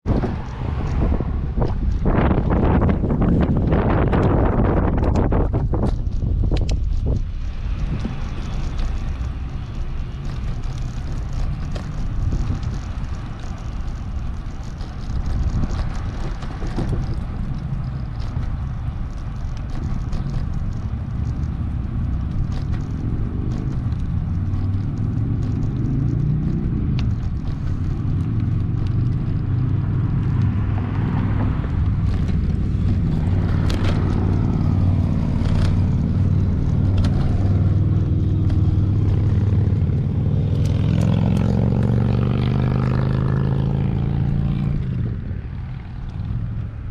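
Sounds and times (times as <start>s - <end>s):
road rumble from cycling: 0.0s - 46.9s
vehicle engine hum: 0.0s - 46.9s
wind: 0.0s - 46.9s.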